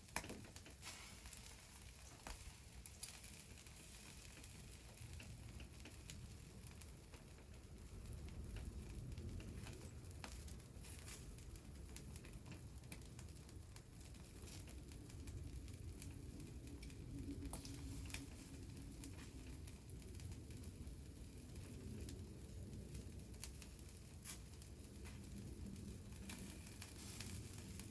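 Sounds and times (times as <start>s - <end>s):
fire pops and snaps: 0.0s - 27.9s
steady low hiss: 0.0s - 27.9s
wood fire crackling: 0.0s - 27.9s.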